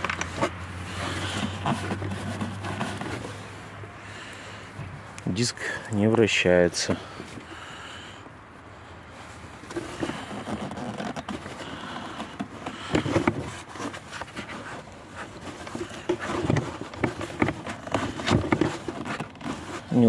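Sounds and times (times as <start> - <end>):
gloved hand scraping and rustling: 0.0 - 7.8, 9.1 - 20.0.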